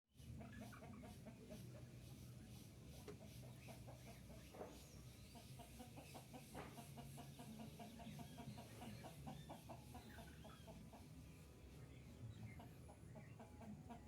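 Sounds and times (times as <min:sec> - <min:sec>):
faint chickens clucking: 0:00.2 - 0:14.0.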